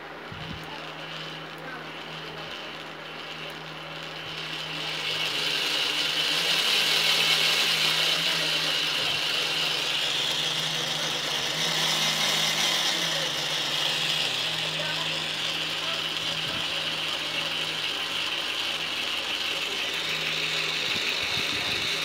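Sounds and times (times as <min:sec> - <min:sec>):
electric motor whirring: 0:00.0 - 0:22.0.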